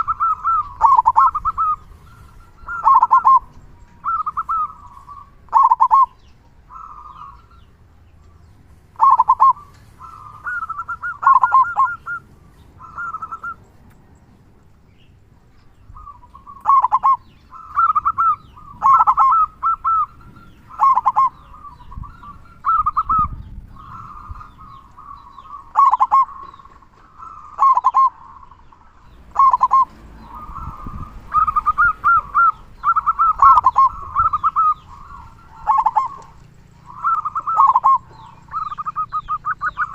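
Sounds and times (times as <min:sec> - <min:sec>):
dove cooing: 0:00.0 - 0:07.7, 0:08.9 - 0:13.7, 0:15.9 - 0:39.9.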